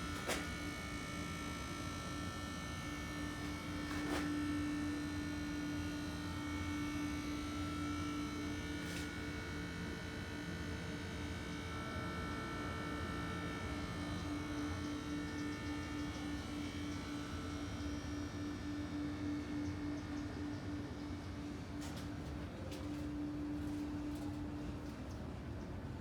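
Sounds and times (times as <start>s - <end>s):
water heater electric hum: 0.0s - 26.0s.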